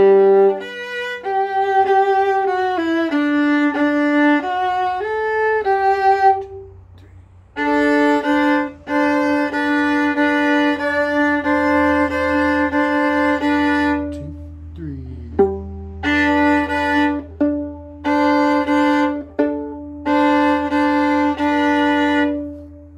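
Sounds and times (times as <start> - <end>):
violin playing: 0.0 - 22.9.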